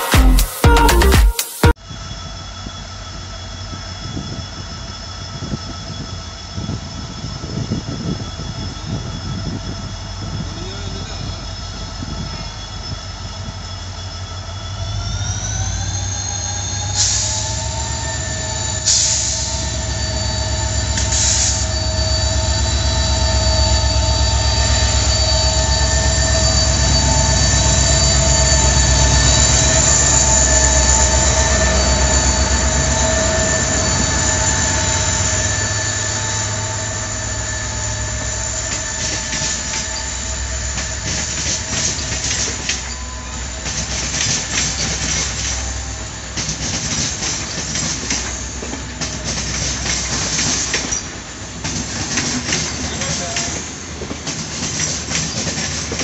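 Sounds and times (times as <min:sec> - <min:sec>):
locomotive engine whine: 0:01.7 - 0:56.0
train passing rumble: 0:01.8 - 0:56.0.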